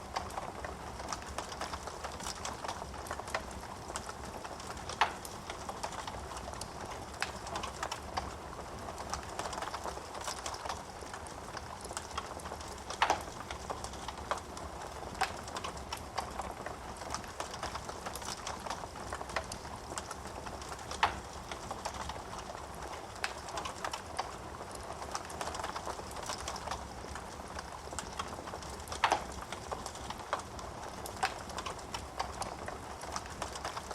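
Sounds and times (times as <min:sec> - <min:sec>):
fireplace wood crackling: 0:00.0 - 0:33.9.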